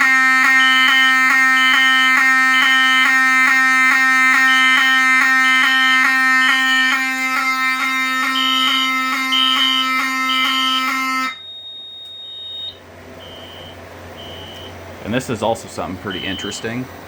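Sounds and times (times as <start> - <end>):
fire alarm horn buzzing: 0.0 - 14.8, 16.0 - 16.7
high alarm beeps: 0.0 - 14.8, 16.0 - 16.8.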